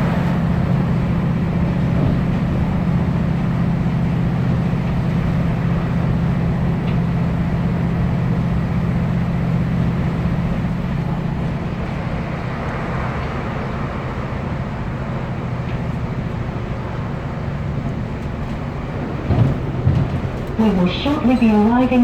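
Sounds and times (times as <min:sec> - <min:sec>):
diesel engine humming: 0:00.0 - 0:22.0
train wheels rumbling on rails: 0:00.0 - 0:22.0.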